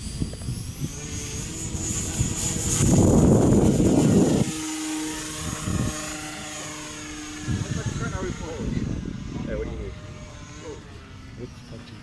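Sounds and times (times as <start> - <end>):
model airplane motor whine: 0.0 - 12.0.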